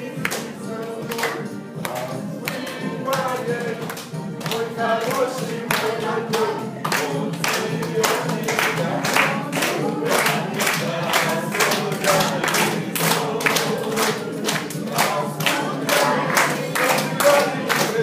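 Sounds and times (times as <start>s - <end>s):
group of people singing: 0.0s - 18.0s
rhythmic clapping: 0.0s - 18.0s.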